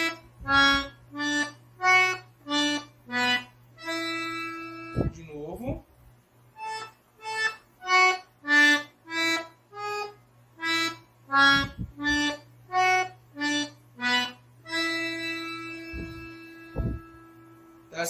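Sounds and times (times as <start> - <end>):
accordion playing slow melody: 0.0 - 5.2, 6.5 - 17.9
faint low hum: 0.0 - 18.0.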